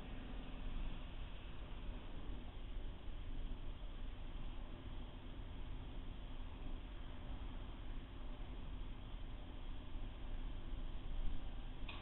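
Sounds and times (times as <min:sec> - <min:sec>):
distant city street ambience: 0:00.0 - 0:12.0.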